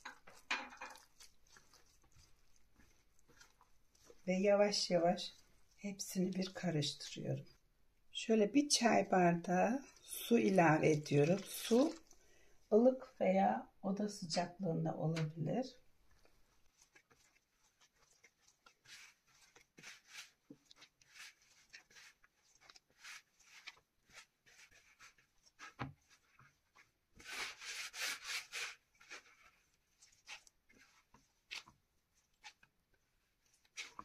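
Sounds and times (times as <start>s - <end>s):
hands kneading dough: 0.0s - 7.7s, 8.4s - 34.0s.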